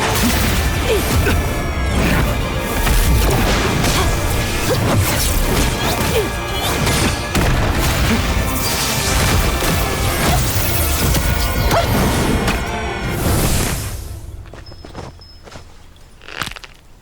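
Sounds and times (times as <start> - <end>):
music: 0.0 - 15.6.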